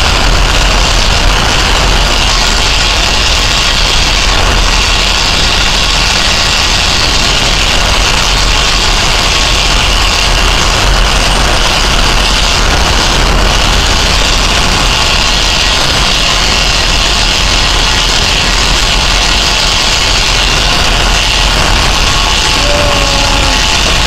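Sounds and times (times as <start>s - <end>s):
constant high hiss: 0.0s - 24.0s
heavy engines and machinery droning: 0.0s - 24.0s.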